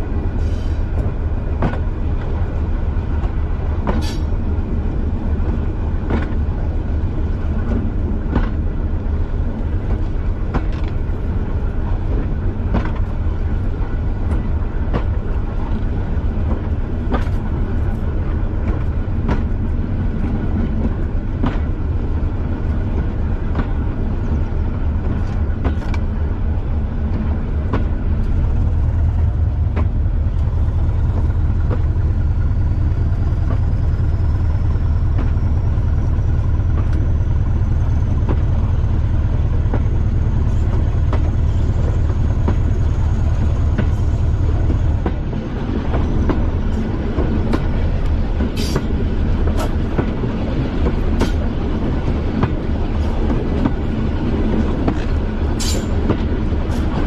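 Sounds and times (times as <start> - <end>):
train wheels clicking over rail joints: 0.0 - 26.4, 27.0 - 57.0
diesel train engine running: 0.0 - 57.0.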